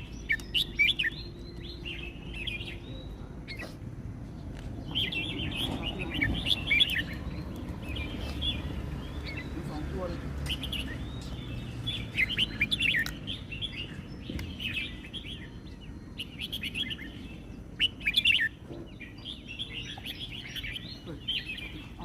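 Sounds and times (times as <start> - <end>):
bird whistled song: 0.0 - 3.7, 4.8 - 9.7, 10.4 - 22.0.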